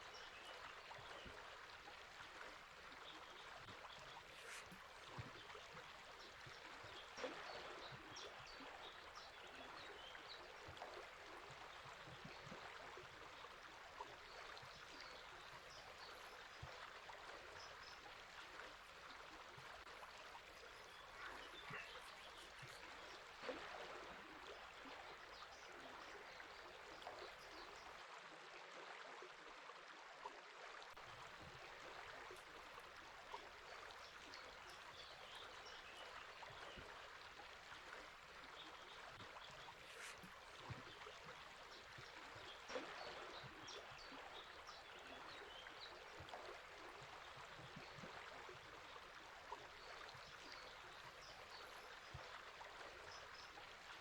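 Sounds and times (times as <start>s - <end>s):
faint river flowing: 0.0s - 54.0s.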